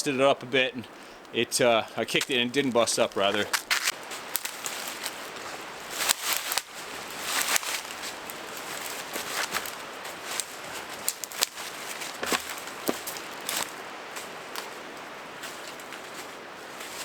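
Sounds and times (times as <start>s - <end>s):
crunching and rustling: 1.0s - 17.0s.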